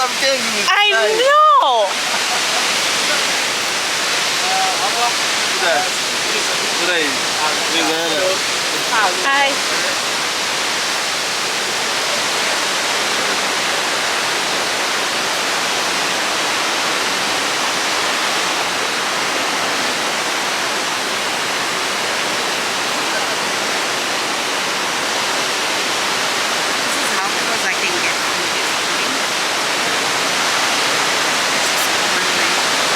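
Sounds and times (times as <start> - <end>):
rushing waterfall: 0.0 - 32.9.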